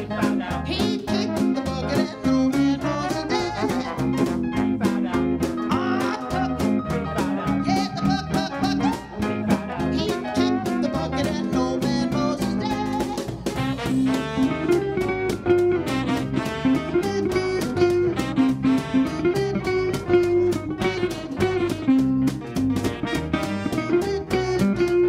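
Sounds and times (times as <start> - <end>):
electric guitar playing: 0.0 - 25.0.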